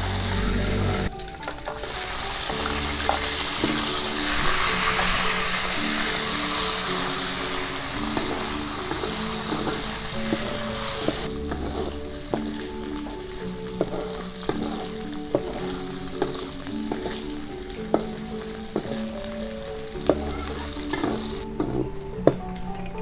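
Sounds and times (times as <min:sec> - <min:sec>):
fish sizzling in hot oil: 0:01.1 - 0:21.6.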